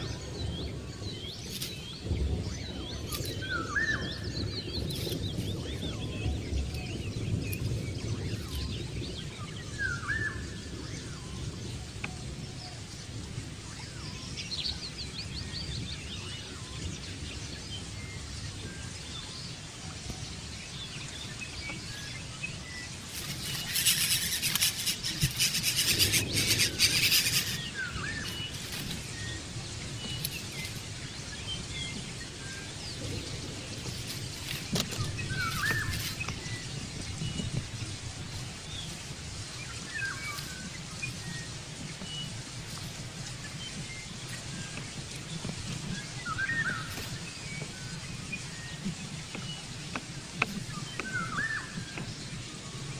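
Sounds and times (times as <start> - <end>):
outdoor background noise: 0.0 - 52.9
small birds chirping: 0.0 - 52.9.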